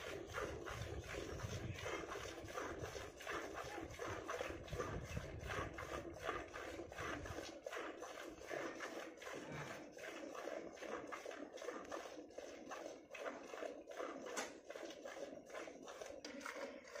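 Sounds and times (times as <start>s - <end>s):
milk squirting into steel pot: 0.0s - 17.0s.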